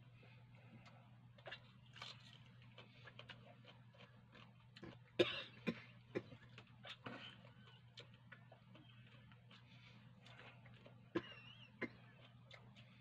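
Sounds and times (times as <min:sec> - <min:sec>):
man chewing with mouth clicks: 0:00.7 - 0:05.2, 0:05.9 - 0:11.1, 0:11.7 - 0:13.0.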